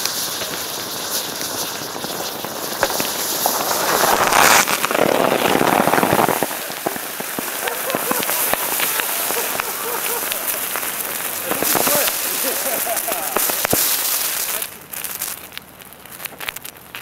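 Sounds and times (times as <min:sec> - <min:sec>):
thermite sizzling and crackling: 0:00.0 - 0:17.0.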